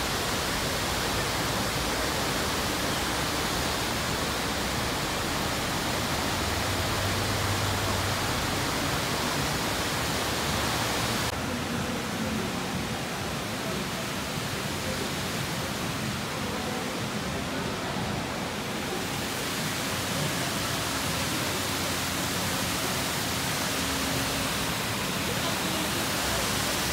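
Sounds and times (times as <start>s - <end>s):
waterfall roaring: 0.0s - 26.9s.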